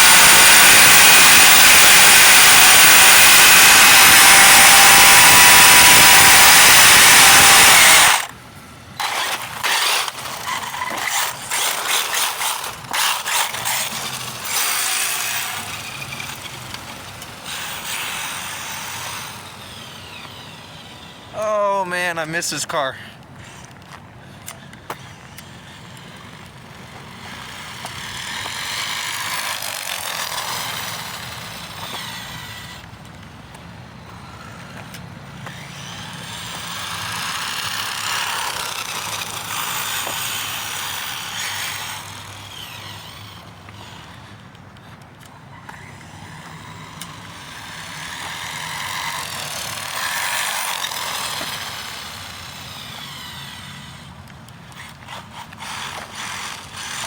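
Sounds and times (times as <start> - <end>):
rc car electric motor whining: 0.0 - 8.4, 9.0 - 21.4, 24.5 - 57.0
wheels sliding on ground: 0.0 - 21.8, 23.2 - 57.0.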